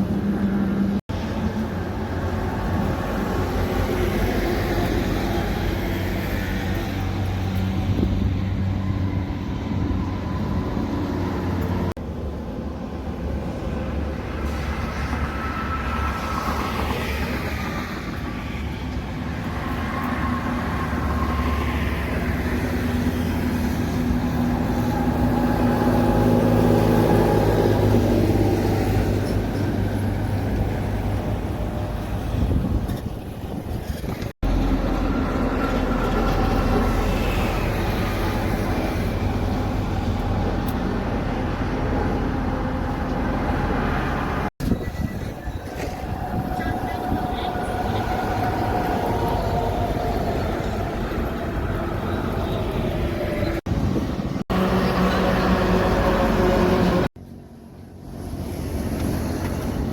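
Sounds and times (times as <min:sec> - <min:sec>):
heavy truck engines: 0:00.0 - 0:59.9
road traffic: 0:00.0 - 0:59.9.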